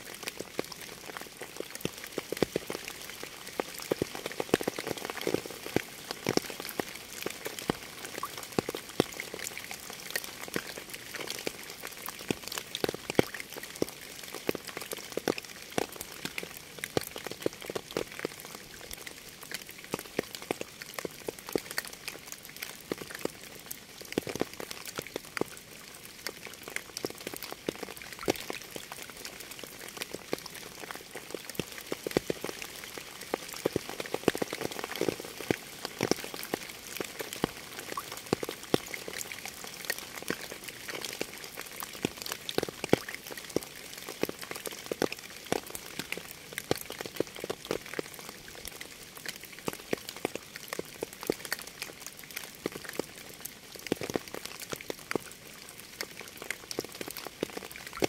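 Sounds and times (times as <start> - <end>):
raindrops pattering: 0.0 - 58.0.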